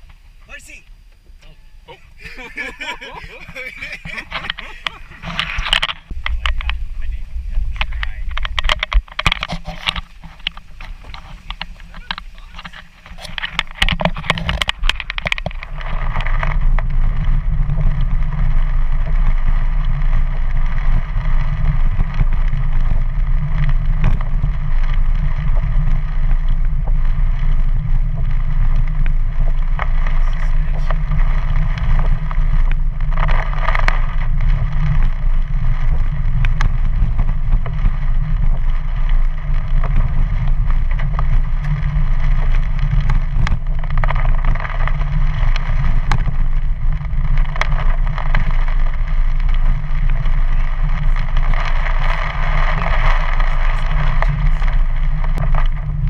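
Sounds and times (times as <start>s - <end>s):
crackles and clicks: 0.0s - 56.0s
engine and tyres rumbling: 0.0s - 56.0s.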